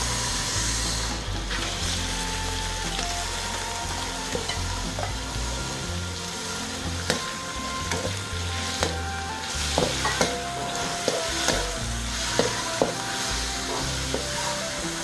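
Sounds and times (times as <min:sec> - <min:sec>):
beef sizzling in a wok: 0:00.0 - 0:15.0.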